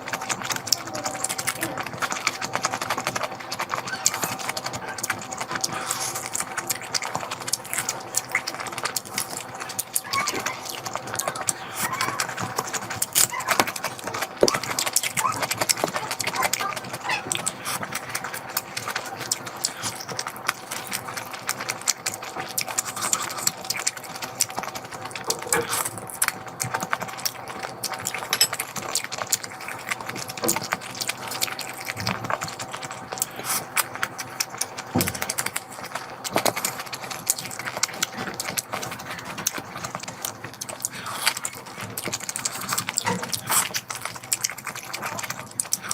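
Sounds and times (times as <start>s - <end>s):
wet chewing and lip smacking: 0.0s - 45.9s.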